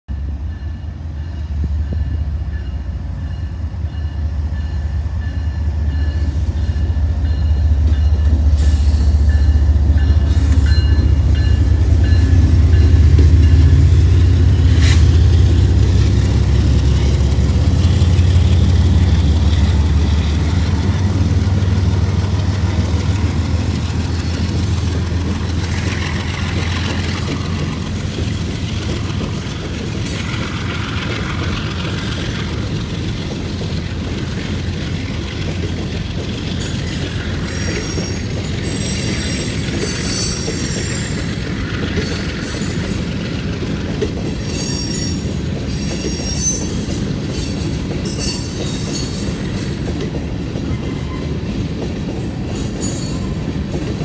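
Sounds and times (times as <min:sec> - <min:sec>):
diesel locomotive engine rumble: 0:00.1 - 0:54.0.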